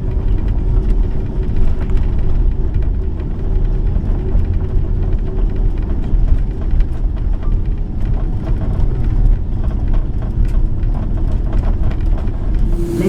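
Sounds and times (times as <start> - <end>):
airplane cabin low rumble: 0.0 - 13.0.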